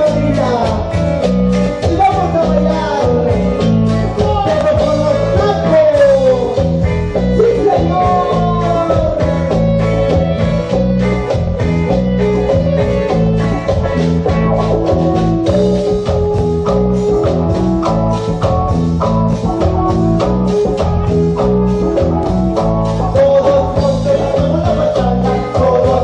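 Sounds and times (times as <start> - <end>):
live dance band playing: 0.0 - 26.0.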